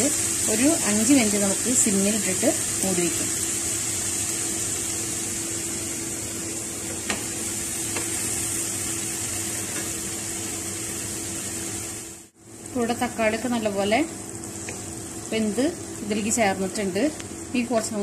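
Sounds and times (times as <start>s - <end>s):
masala sizzling in a pan: 0.0s - 18.0s.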